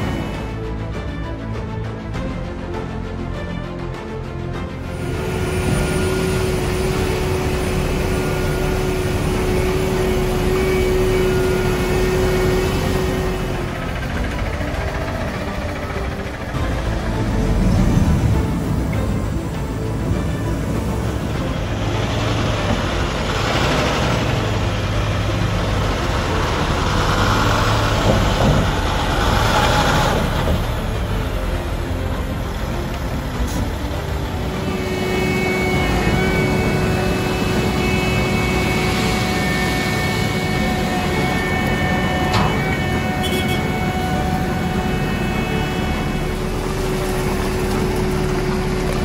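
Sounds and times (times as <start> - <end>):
steady whining tones: 0.0 - 3.5, 4.1 - 49.0
truck diesel engine running: 0.0 - 49.0.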